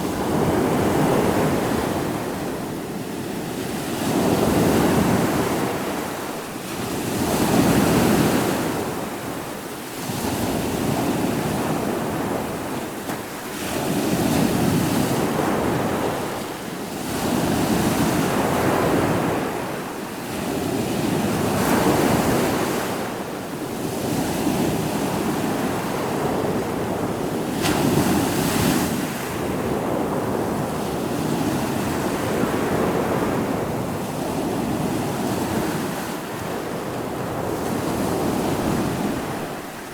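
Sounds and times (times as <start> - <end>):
ocean waves breaking on shore: 0.0 - 39.9
wind on microphone: 0.0 - 39.9.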